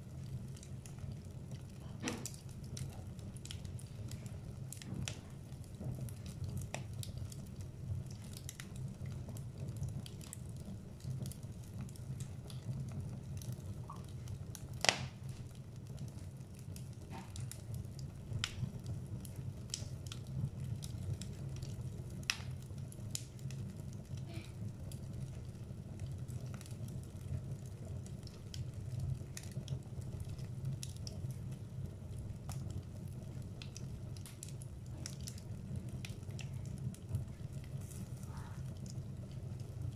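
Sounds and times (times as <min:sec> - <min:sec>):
fire low rumble: 0:00.0 - 0:39.9
log fire crackling and popping: 0:00.0 - 0:39.9.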